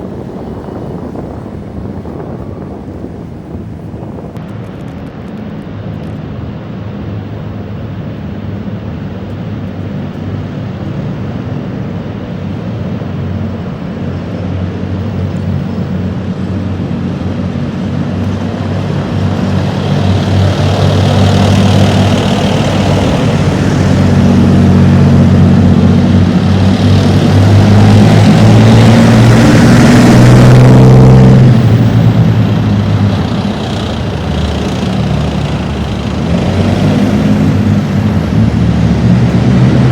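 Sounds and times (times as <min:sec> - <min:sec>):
tank diesel engines driving past: 0:00.0 - 0:39.9.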